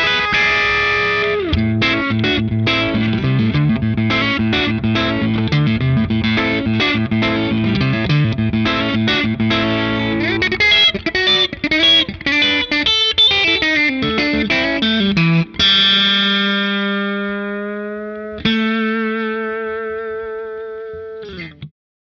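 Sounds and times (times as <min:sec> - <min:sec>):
electric guitar playing: 0:00.0 - 0:21.7.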